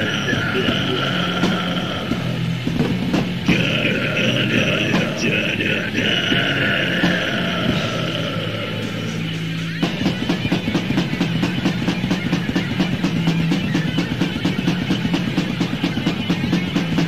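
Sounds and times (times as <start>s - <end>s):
fast drums: 0.0s - 17.0s
metal band playing: 0.0s - 17.0s.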